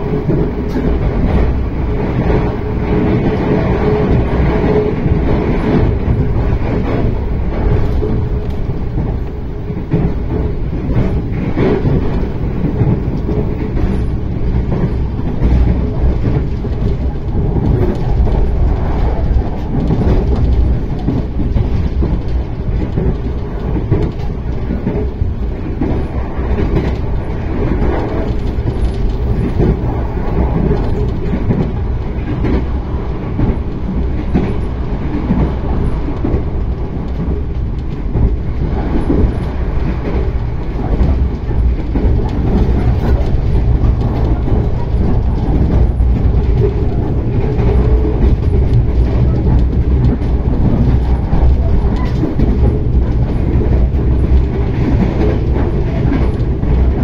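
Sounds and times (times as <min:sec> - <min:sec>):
faint rail clacks: 0:00.0 - 0:57.0
train wheels rumbling on rails: 0:00.0 - 0:57.0.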